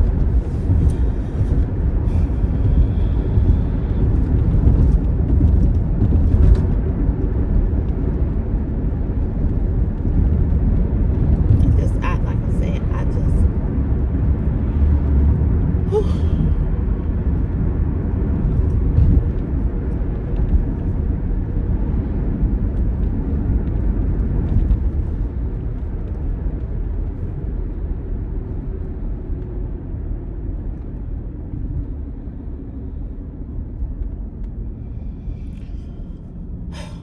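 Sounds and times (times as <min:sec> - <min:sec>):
car cabin road and engine rumble: 0:00.0 - 0:37.0.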